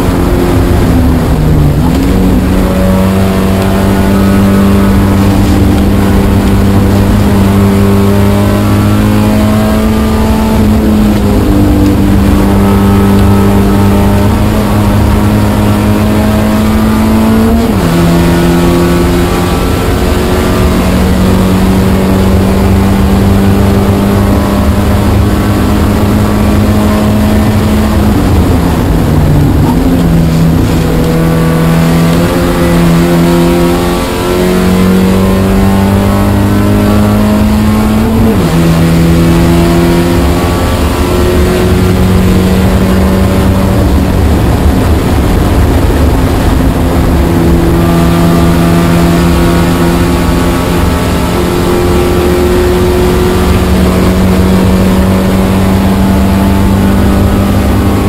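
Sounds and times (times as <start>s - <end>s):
race car engine under hard throttle: 0.0s - 58.0s
wind and road noise: 0.0s - 58.0s.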